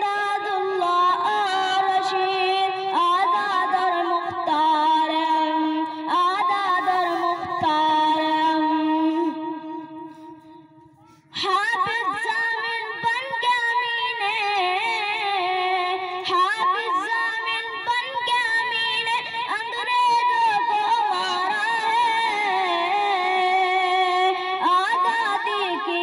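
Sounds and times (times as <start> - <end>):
boy singing into a microphone: 0.0 - 26.0.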